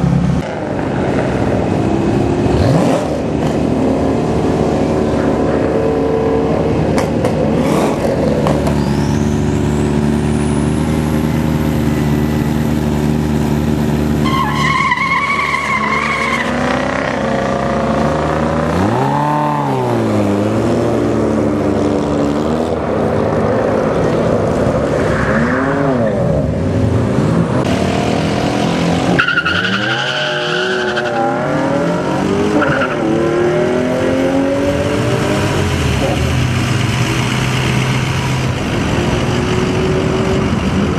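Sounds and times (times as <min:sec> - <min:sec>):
diesel truck engines revving: 0:00.0 - 0:40.9.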